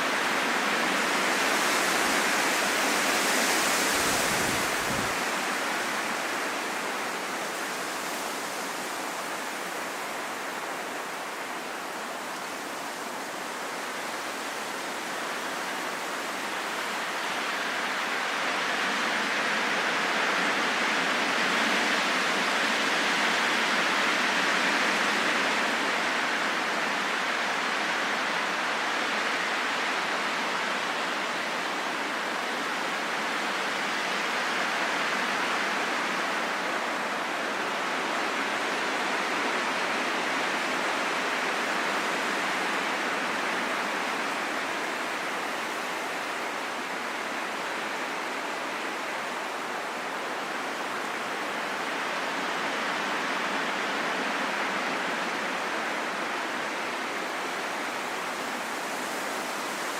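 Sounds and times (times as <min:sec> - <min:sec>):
steady rain in forest: 0:00.0 - 0:59.9.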